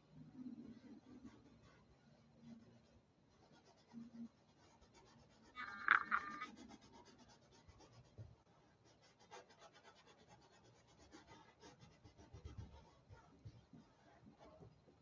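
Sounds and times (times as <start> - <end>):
paintbrush scratching canvas: 0.4 - 15.0.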